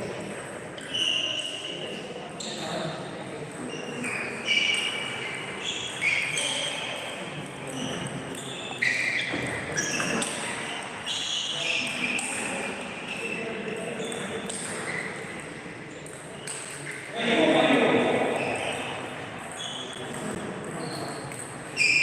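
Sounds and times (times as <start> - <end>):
murmur of voices: 0.0 - 22.0.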